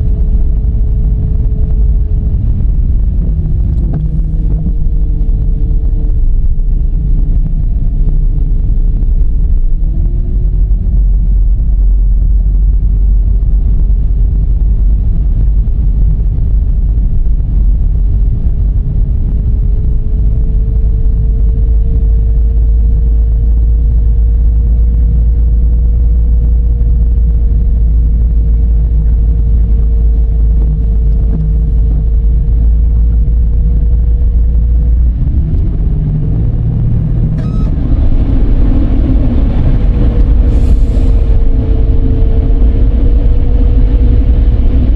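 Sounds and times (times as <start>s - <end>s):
car road rumble: 0.0s - 44.9s
faint car whine: 0.0s - 44.9s.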